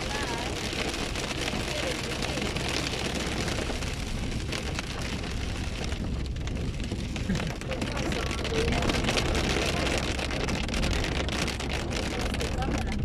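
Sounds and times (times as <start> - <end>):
rain hitting a windshield: 0.0 - 13.0
tyres rumbling on wet road: 0.0 - 13.0.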